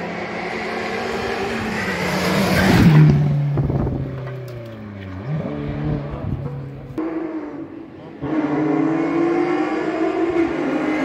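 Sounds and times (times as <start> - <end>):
race car passing at speed: 0.0 - 11.0.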